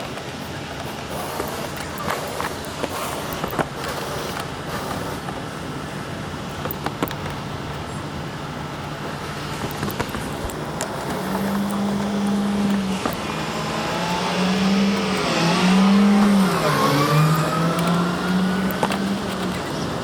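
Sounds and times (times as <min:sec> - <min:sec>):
motor vehicle engine running: 0:00.0 - 0:20.0.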